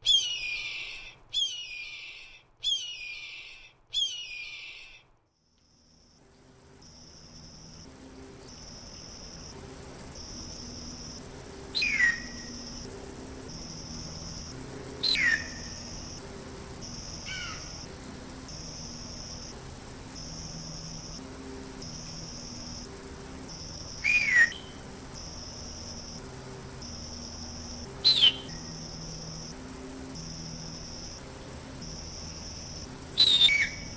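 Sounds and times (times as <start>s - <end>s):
pulsing insect chorus: 5.7s - 33.9s.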